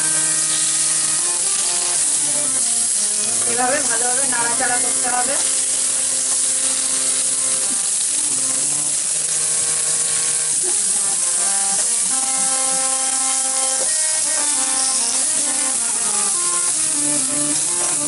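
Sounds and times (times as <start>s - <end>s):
background music of held notes: 0.0s - 18.0s
vegetables sizzling in oil: 0.0s - 18.0s.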